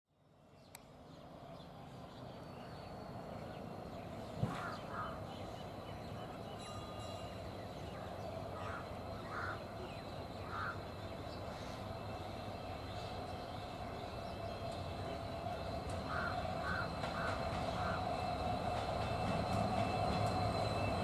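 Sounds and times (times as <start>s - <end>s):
locomotive engine rumble: 0.8s - 21.0s
bird calls: 2.2s - 21.0s.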